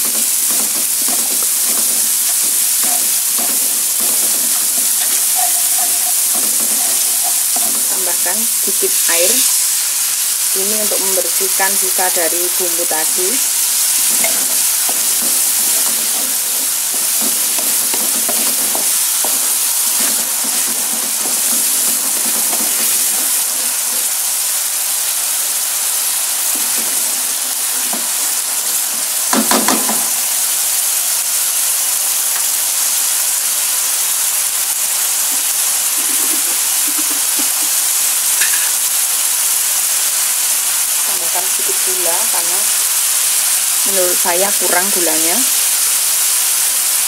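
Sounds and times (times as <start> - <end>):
paste sizzling in a wok: 0.0 - 47.0.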